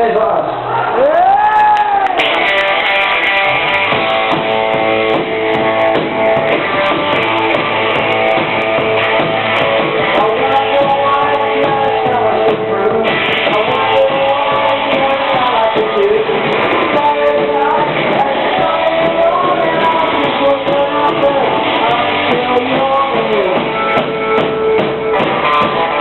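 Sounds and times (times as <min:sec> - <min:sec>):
rock band playing: 0:01.1 - 0:26.0
strummed electric guitar: 0:02.1 - 0:26.0.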